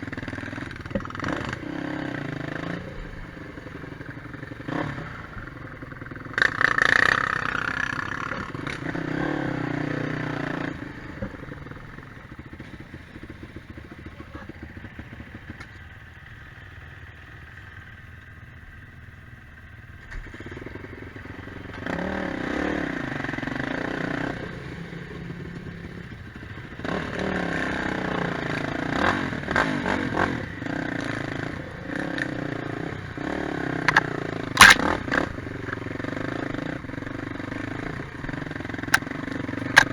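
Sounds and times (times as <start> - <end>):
quad bike engine revving: 0.0 - 15.7, 20.2 - 39.9.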